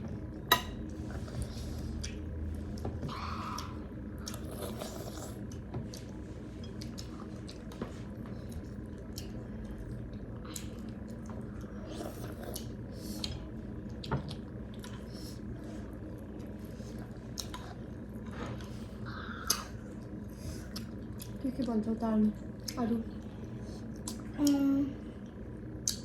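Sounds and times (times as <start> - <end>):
wet chewing sounds: 1.2 - 21.8, 25.8 - 26.0.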